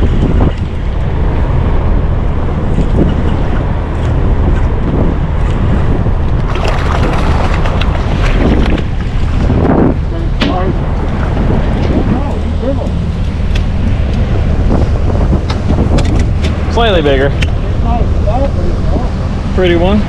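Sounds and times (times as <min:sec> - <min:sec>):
waves: 0:00.0 - 0:20.0
wind buffeting microphone: 0:00.0 - 0:20.0.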